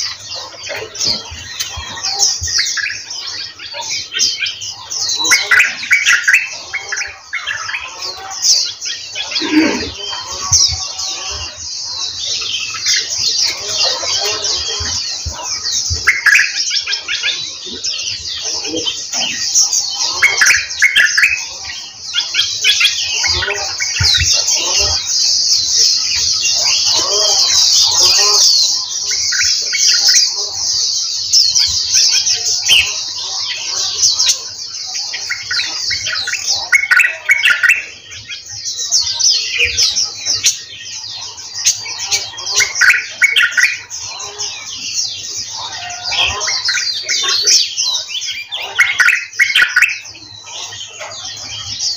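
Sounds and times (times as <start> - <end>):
louder lower bird calls: 0.0 - 51.9
small birds chirping and twittering: 0.0 - 51.9.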